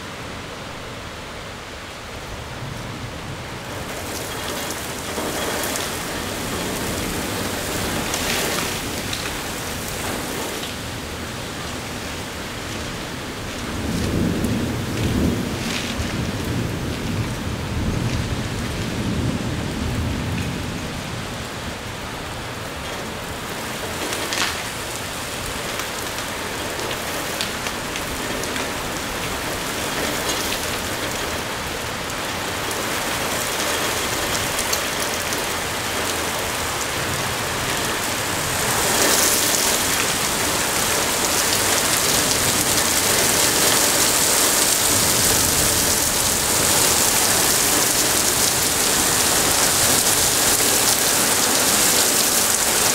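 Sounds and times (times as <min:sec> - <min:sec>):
heavy rain pouring: 0:00.0 - 0:52.9
thunder rumble: 0:02.1 - 0:52.9.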